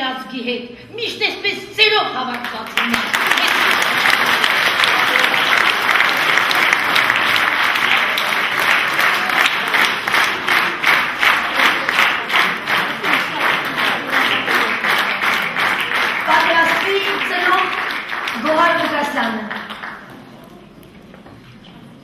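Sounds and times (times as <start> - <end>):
rhythmic clapping in unison: 2.3 - 20.2
audience applauding: 2.6 - 20.7.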